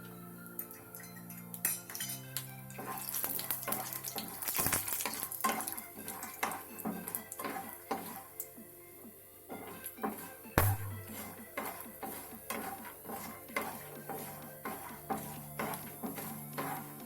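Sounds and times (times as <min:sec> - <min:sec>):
oil sizzling: 0:00.5 - 0:17.0
spoon scraping in a pan: 0:01.0 - 0:08.7, 0:09.5 - 0:17.0.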